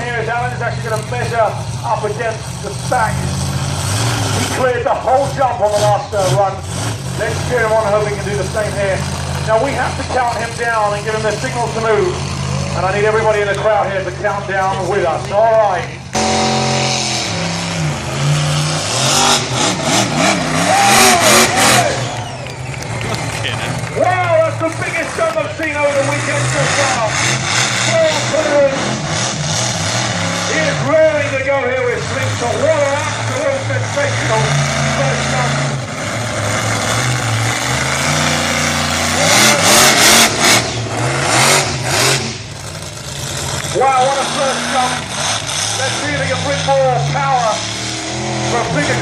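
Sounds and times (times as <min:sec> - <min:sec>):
monster truck engine revving: 0:00.0 - 0:49.0.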